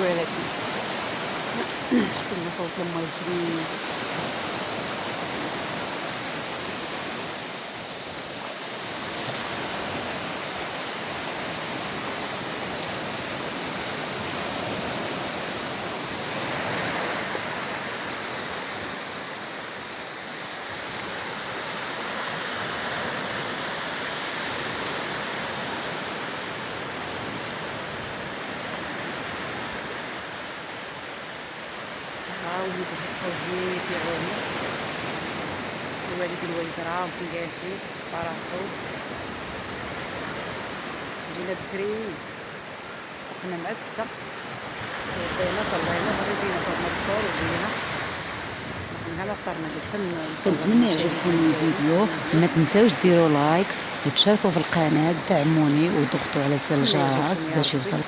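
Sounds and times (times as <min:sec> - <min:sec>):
sea waves washing onto shore: 0:00.0 - 0:58.0.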